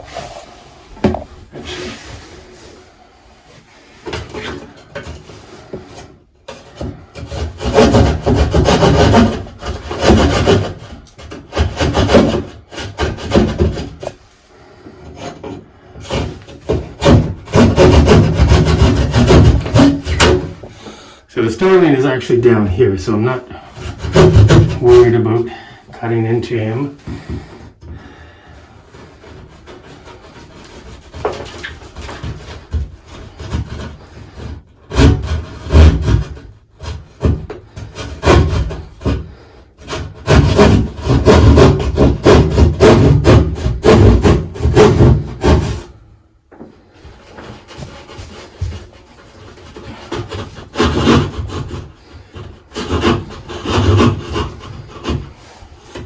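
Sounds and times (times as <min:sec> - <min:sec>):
hand saw rasping through wall: 0:00.0 - 0:56.0.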